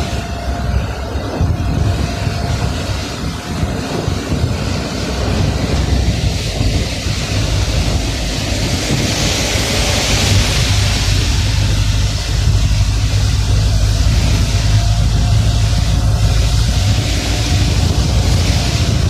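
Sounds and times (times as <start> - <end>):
hiss: 0.0 - 19.0
road noise: 0.0 - 19.0
vehicle engine rumble: 0.0 - 19.0.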